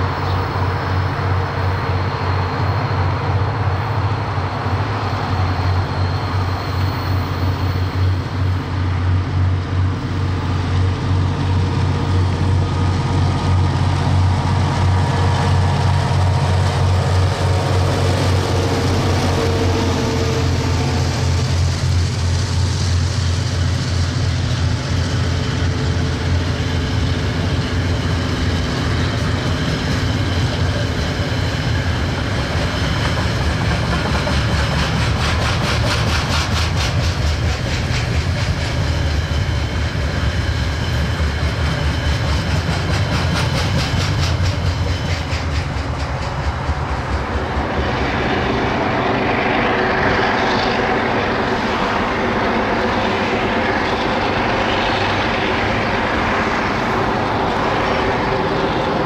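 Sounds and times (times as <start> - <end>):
locomotive engine throbbing: 0.0 - 59.0.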